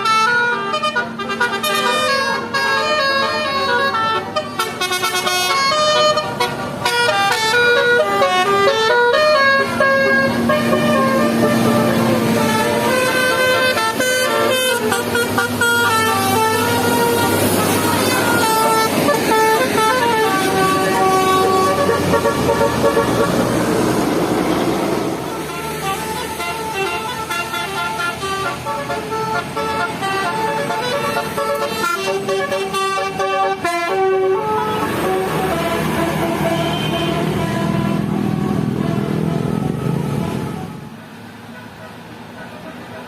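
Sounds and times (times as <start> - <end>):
musical bus horn playing a tune: 0.0 - 41.7.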